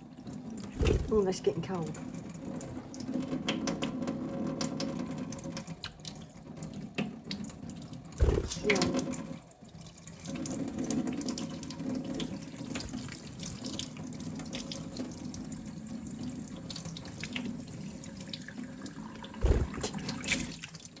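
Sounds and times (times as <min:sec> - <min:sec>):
water running from a tap: 0:00.0 - 0:21.0
water splashes and drips: 0:00.0 - 0:21.0.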